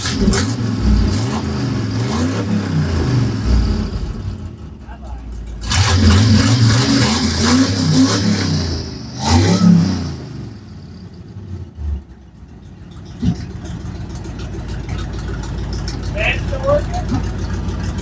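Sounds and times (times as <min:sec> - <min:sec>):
engine revving and idling: 0:00.0 - 0:18.0.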